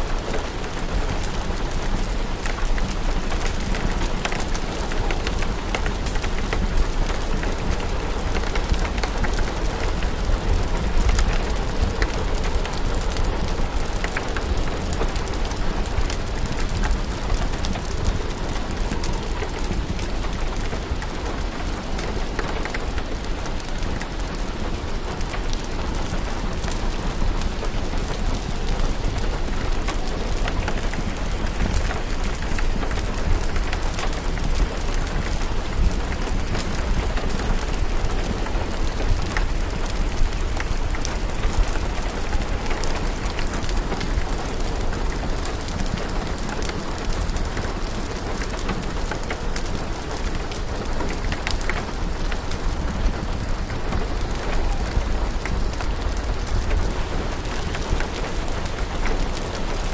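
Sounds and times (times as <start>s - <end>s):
steady rain: 0.0s - 59.9s
wood fire crackling: 0.1s - 59.9s.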